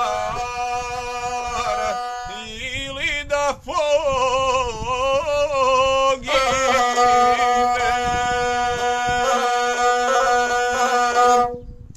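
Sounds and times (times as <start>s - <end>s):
man singing: 0.0s - 11.6s.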